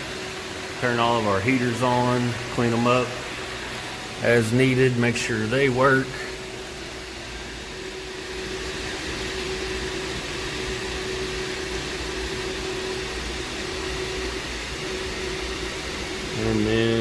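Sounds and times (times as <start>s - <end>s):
hvac equipment humming: 0.0s - 17.0s.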